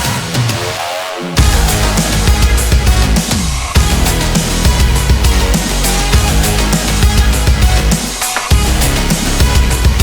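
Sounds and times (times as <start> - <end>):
hard-edged music with heavy drums: 0.0 - 10.0.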